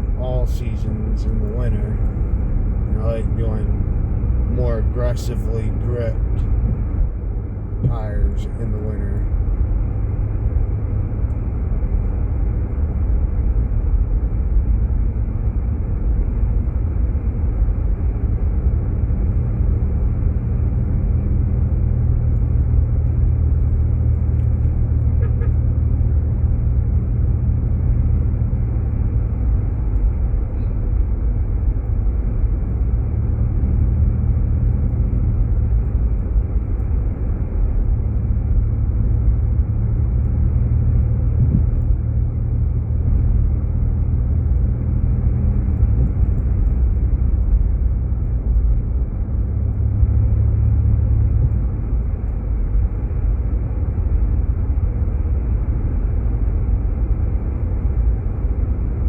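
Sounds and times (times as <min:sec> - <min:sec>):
car tires and engine rumble: 0:00.0 - 0:59.0.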